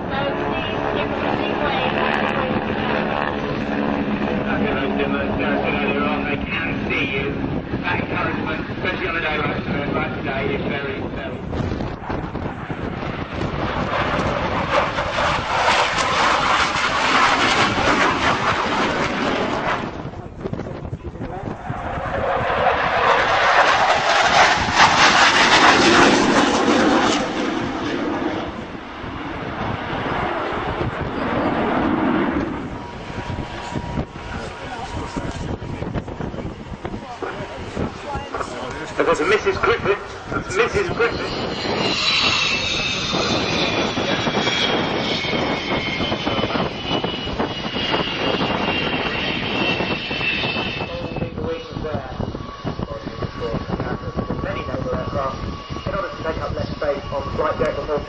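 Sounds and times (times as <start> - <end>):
jet aircraft flying overhead: 0.0 - 58.0.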